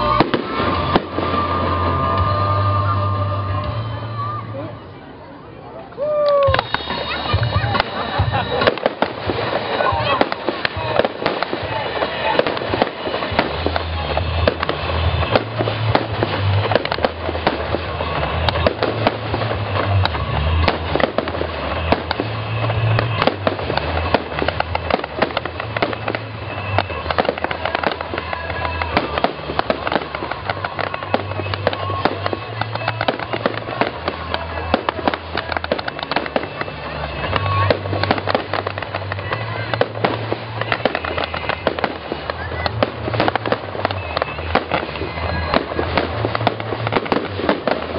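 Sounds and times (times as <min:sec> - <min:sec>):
fireworks crackling and banging: 0:00.0 - 0:47.9.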